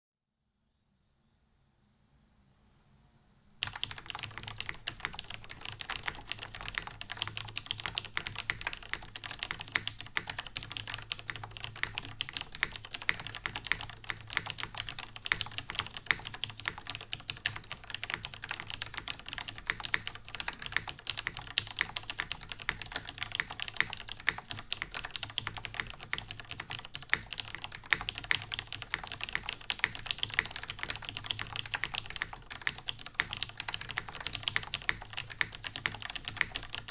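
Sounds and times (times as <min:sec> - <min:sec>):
fast typing on mechanical keyboard: 0:03.6 - 0:36.9.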